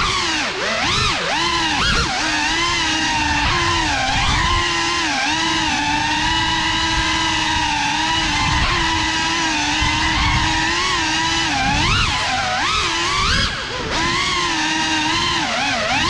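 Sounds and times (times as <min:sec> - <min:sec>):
drone propellers buzzing whine: 0:00.0 - 0:16.0.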